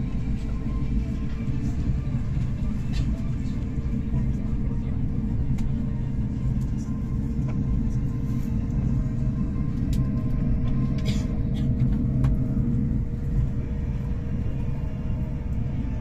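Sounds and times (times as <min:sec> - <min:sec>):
train rumble inside passenger car: 0:00.0 - 0:16.0.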